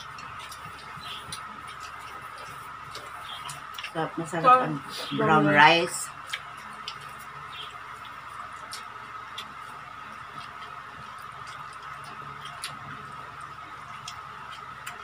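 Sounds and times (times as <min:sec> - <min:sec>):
chewing mouth sounds: 0:00.0 - 0:04.1, 0:06.1 - 0:15.0
faint background hum: 0:00.0 - 0:15.0.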